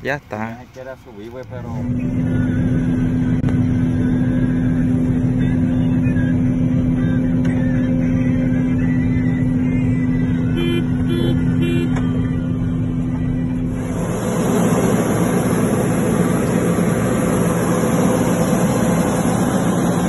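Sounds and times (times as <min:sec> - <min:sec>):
combine harvester droning: 0:01.5 - 0:20.0.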